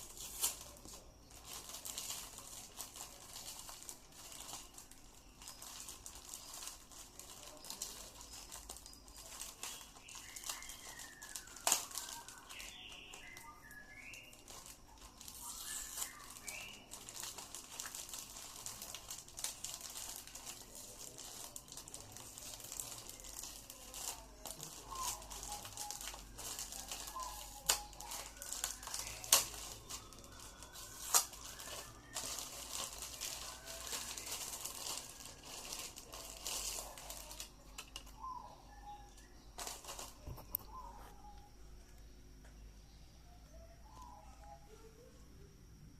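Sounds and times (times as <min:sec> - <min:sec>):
packaging crinkling: 0:00.0 - 0:41.5
birds chirping: 0:00.7 - 0:45.5.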